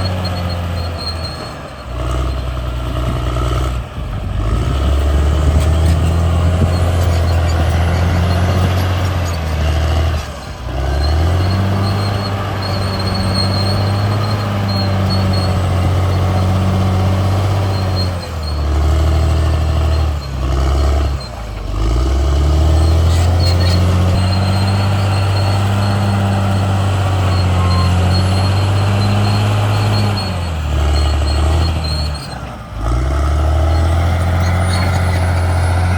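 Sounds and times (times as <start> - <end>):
bulldozer diesel engine: 0.0 - 35.9.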